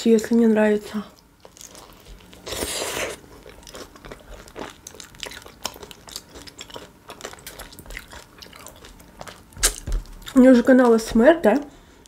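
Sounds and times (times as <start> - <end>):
close-miked chewing: 0.8 - 12.0.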